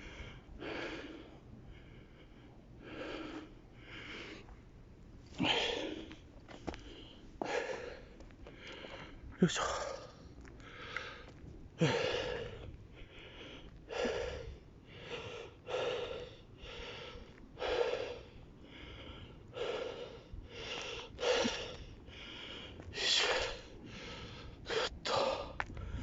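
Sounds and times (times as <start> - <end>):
man breathing hard: 0.0 - 4.6, 5.3 - 26.0.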